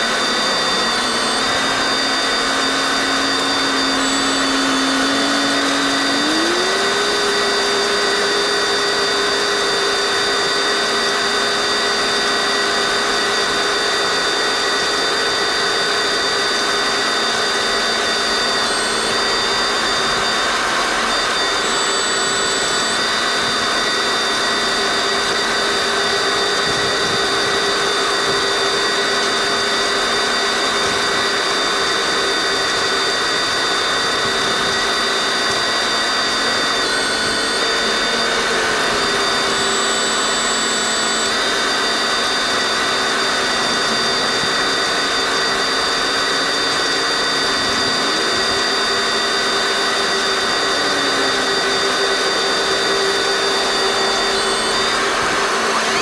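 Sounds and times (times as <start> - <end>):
mechanical whine: 0.0 - 56.0.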